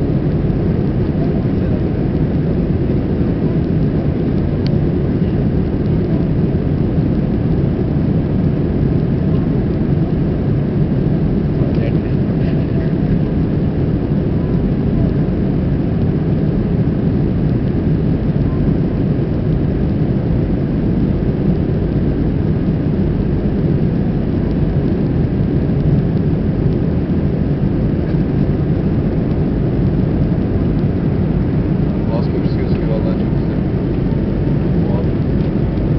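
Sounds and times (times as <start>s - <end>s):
airflow over fuselage: 0.0s - 35.9s
jet engines rumbling: 0.0s - 35.9s.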